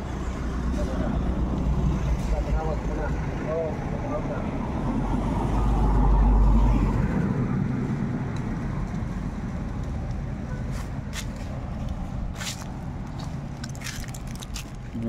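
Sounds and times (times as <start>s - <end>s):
motor vehicle passing: 0.0s - 15.0s.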